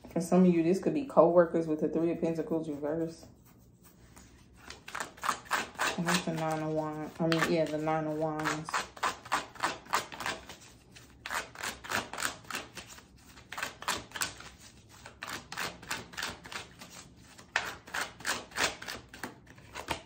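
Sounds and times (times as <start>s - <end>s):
cards being shuffled: 3.4s - 20.0s.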